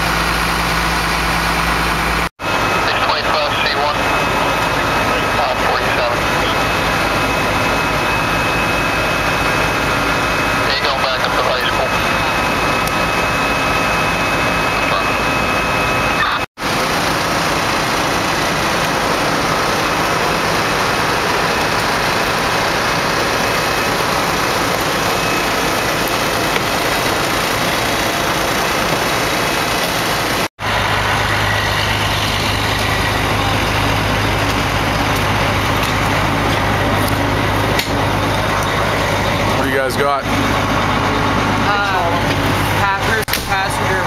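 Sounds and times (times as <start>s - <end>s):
vehicle engines idling: 0.0s - 15.6s, 16.2s - 44.0s.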